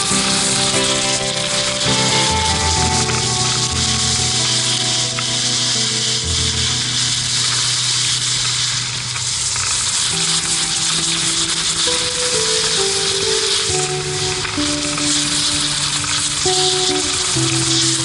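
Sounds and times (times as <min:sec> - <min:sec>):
music with long low notes: 0:00.0 - 0:18.0
snowboard sliding on snow: 0:00.0 - 0:18.0.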